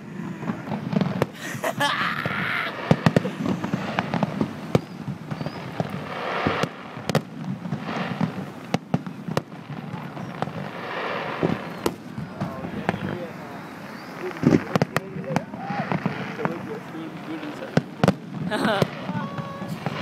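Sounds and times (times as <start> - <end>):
fireworks banging: 0.0 - 20.0.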